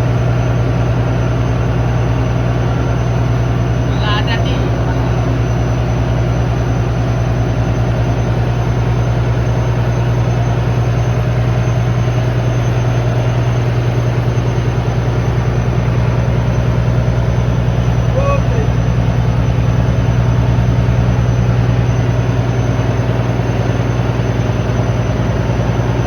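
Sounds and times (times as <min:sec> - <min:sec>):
ship diesel engine pulsing: 0:00.0 - 0:26.0.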